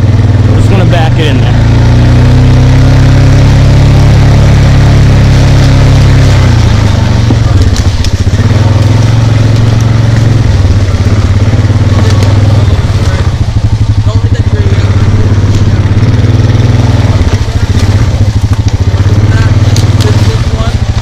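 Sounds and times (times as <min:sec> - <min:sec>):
small vehicle engine running: 0:00.0 - 0:21.0.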